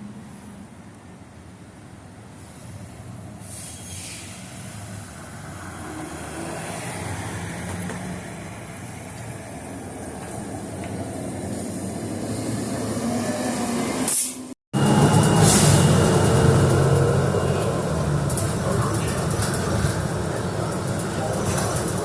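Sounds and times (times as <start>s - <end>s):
rail vehicle rumbling past: 0.0s - 22.0s.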